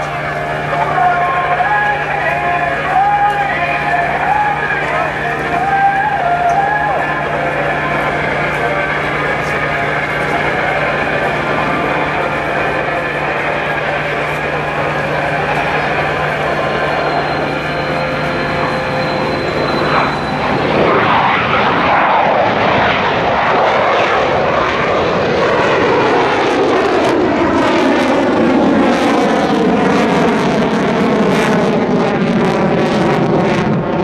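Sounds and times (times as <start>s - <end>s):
jet engine flying past: 0.0s - 34.0s.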